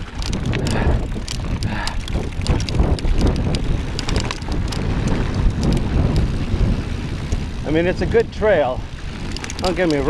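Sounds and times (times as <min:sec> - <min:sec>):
bike rattling on dirt trail: 0:00.0 - 0:10.0
wind on microphone: 0:00.0 - 0:10.0.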